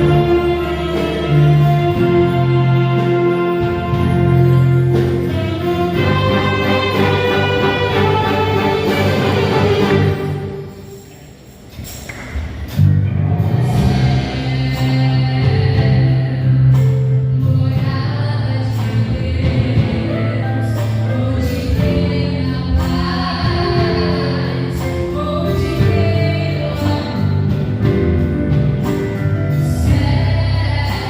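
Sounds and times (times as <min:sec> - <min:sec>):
gospel band playing: 0:00.0 - 0:31.0.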